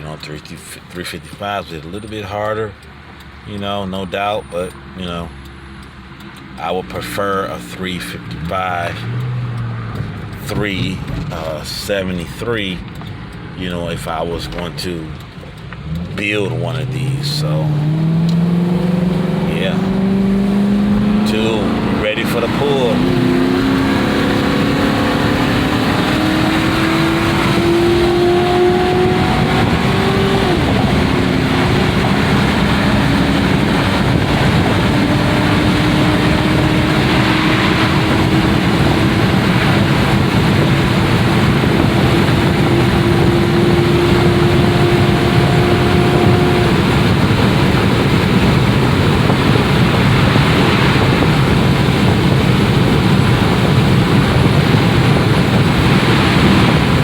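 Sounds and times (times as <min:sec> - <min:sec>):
car engine at full throttle: 0:00.0 - 0:57.0
road and wind noise: 0:00.0 - 0:57.0.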